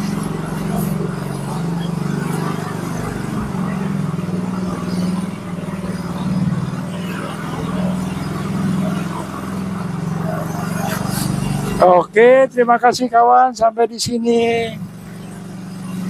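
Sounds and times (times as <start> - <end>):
motorcycle engine running slowly: 0.0 - 16.0.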